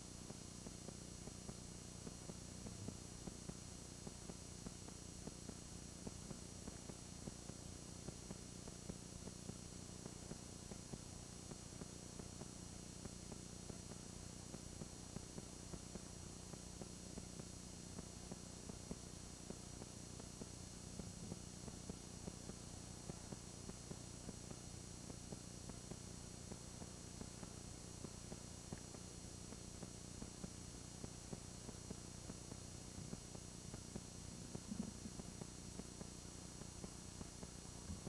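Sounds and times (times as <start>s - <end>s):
videotape hum and hiss: 0.0s - 38.0s.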